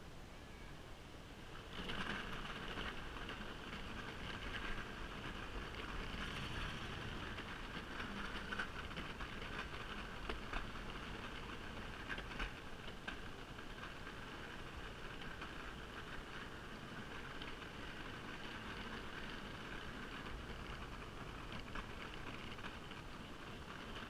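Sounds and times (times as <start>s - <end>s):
wheels rumbling on asphalt: 0.3s - 24.0s
wheels clicking over cracks: 1.4s - 24.0s.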